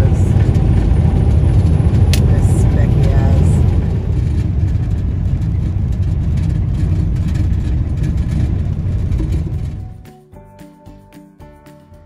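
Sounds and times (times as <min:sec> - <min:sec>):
truck engine and road rumble: 0:00.0 - 0:10.2.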